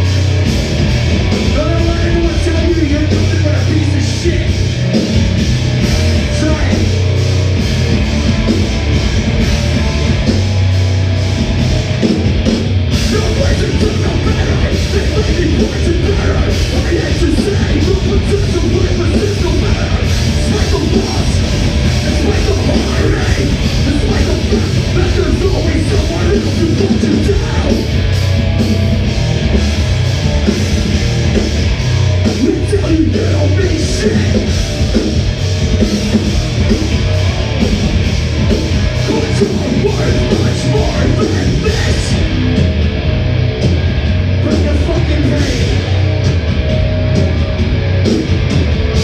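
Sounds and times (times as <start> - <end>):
live rock band playing: 0.0 - 49.0.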